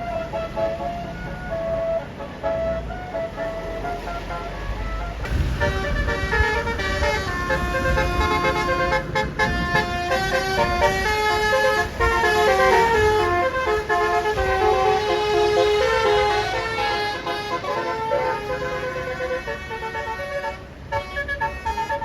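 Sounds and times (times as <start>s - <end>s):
bus engine rumble: 0.0s - 22.0s
multi-note bus horn tune: 0.0s - 22.0s.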